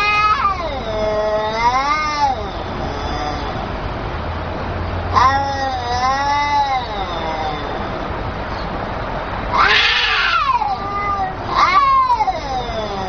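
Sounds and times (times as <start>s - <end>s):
cats yowling: 0.0s - 3.9s, 5.0s - 13.0s.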